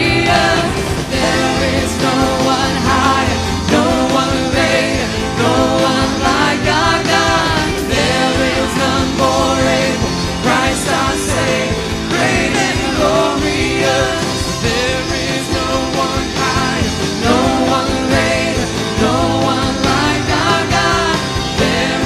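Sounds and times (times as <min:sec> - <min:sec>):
electric and acoustic guitars: 0:00.0 - 0:22.0
voices singing: 0:00.0 - 0:22.0.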